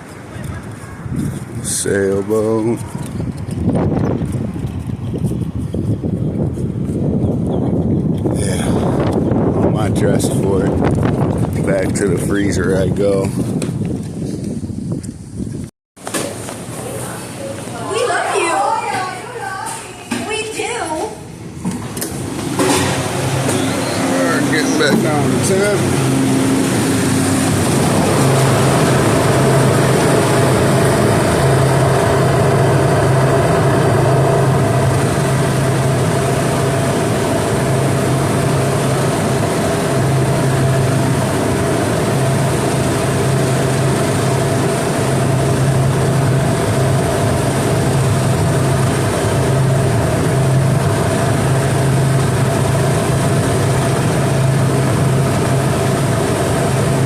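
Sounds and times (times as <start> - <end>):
refrigeration unit humming: 0.0 - 14.9, 16.0 - 57.0.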